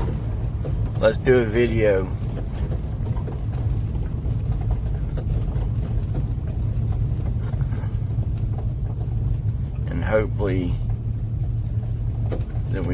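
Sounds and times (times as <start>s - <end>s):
vehicle engine and tyres rumbling: 0.0s - 12.9s.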